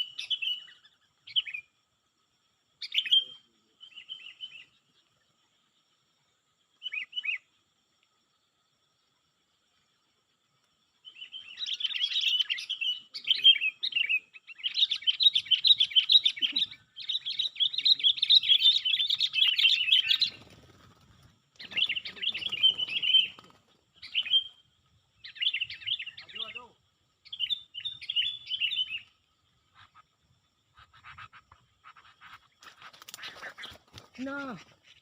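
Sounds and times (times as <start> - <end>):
songbird twittering: 0.0 - 1.9, 2.8 - 7.6, 10.7 - 35.0.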